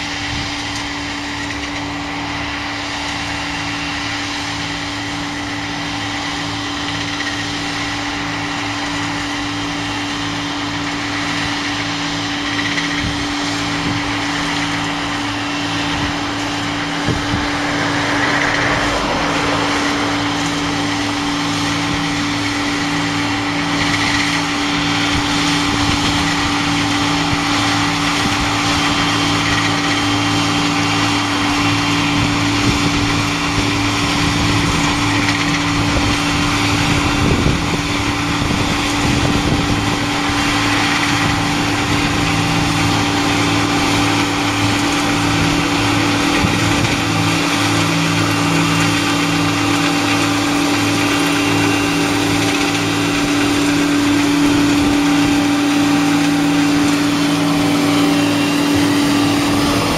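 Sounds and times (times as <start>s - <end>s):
harvester machine humming: 0.0s - 59.9s.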